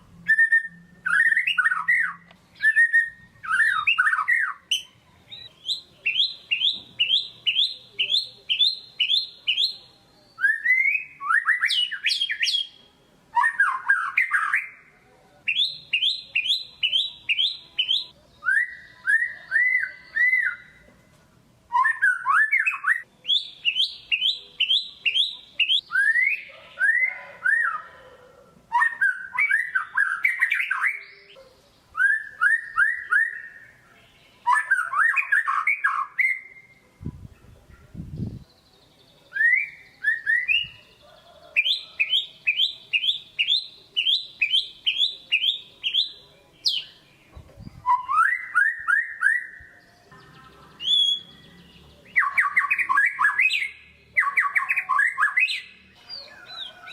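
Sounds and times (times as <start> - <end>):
bird singing whistled phrases: 0.2 - 14.8, 15.5 - 20.8, 21.7 - 27.9, 28.7 - 36.8, 39.3 - 41.0, 41.6 - 47.0, 47.8 - 49.8, 50.8 - 51.5, 52.1 - 56.9.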